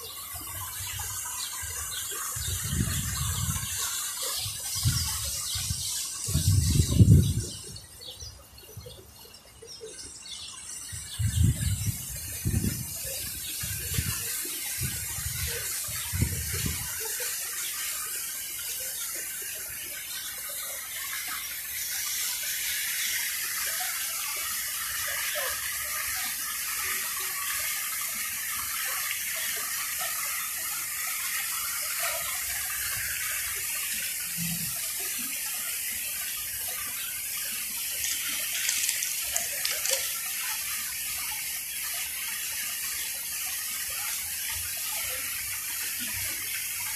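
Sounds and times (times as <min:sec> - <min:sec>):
fountain water splashing: 0:00.0 - 0:46.9.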